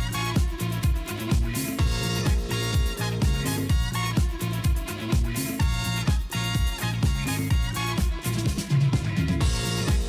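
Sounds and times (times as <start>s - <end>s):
bass line: 0.0s - 10.0s
funk music: 0.0s - 10.0s
kick drum beat: 0.0s - 10.0s.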